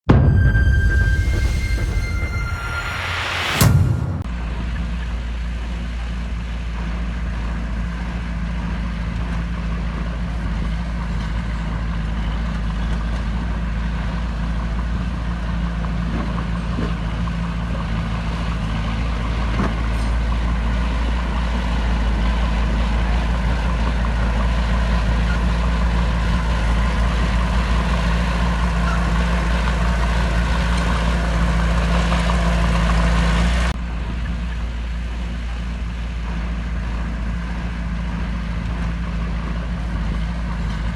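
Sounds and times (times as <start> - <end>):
diesel earthmoving machinery rumbling: 0.0 - 40.9.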